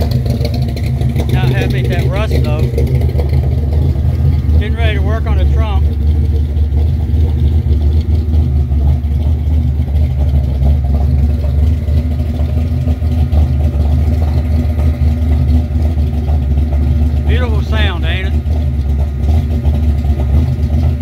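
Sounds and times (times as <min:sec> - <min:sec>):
lopey engine idle: 0:00.0 - 0:21.0.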